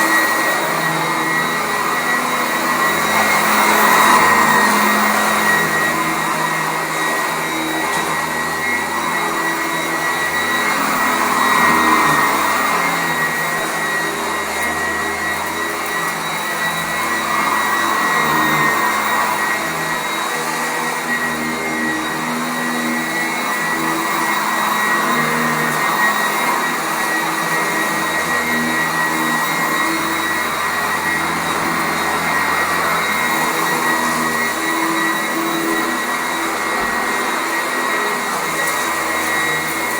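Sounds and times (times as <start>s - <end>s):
upright vacuum cleaner on carpet: 0.0s - 39.9s.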